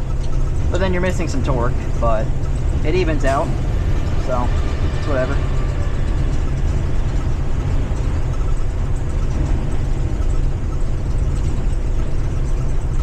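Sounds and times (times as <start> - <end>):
bus engine rumbling: 0.0 - 13.0
road noise: 0.0 - 13.0.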